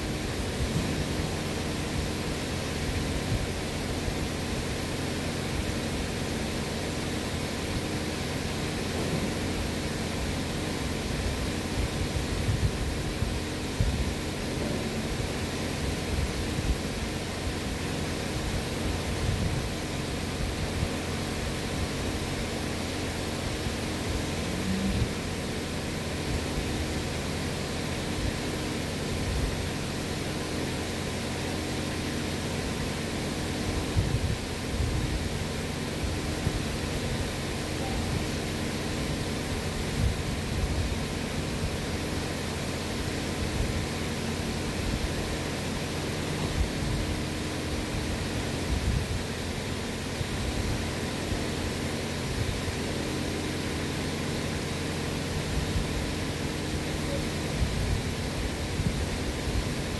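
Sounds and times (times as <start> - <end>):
low hum: 0.0 - 51.4
electric fan running: 0.0 - 59.9.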